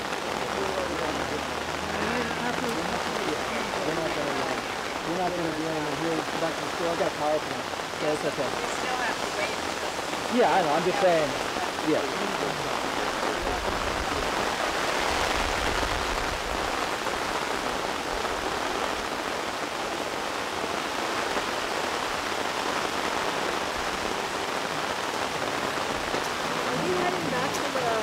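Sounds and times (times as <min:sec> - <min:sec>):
rain on umbrellas: 0:00.0 - 0:28.0.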